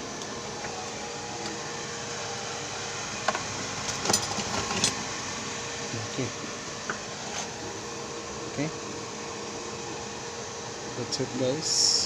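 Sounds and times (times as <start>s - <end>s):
faint hum: 0.0s - 12.0s
fan whirring: 0.0s - 12.0s.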